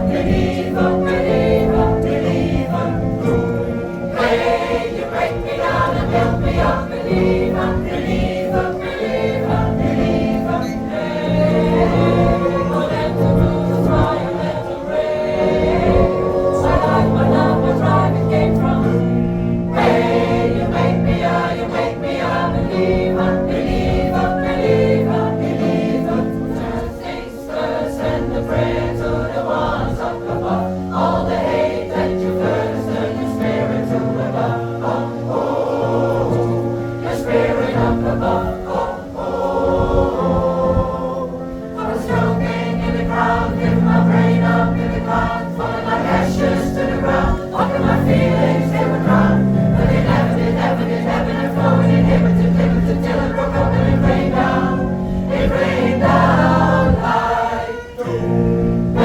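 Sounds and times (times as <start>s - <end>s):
pop choir singing: 0.0s - 59.0s.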